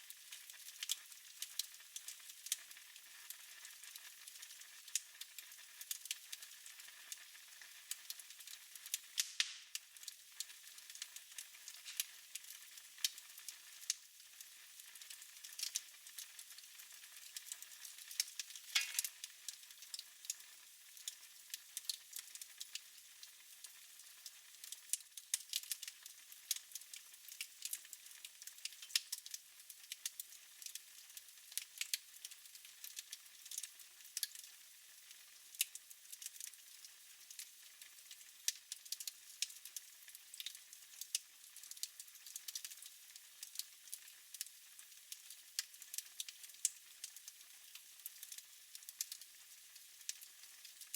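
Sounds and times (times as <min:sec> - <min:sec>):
fire crackling in fireplace: 0:00.0 - 0:50.9.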